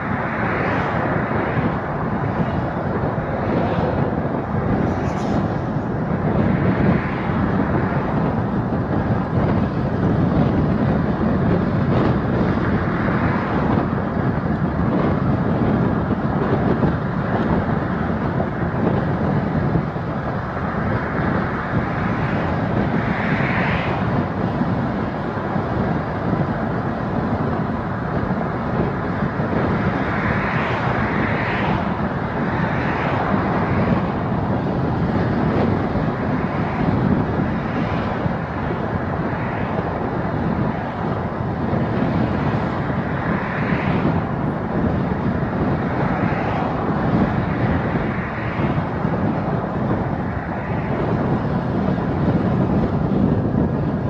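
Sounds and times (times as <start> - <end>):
car road and tyre noise: 0.0 - 54.0.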